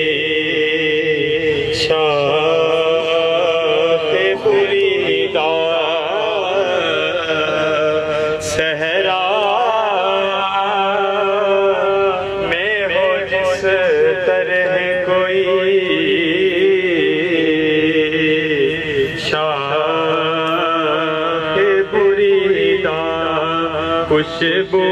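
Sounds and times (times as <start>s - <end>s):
man singing through a microphone: 0.0s - 24.9s.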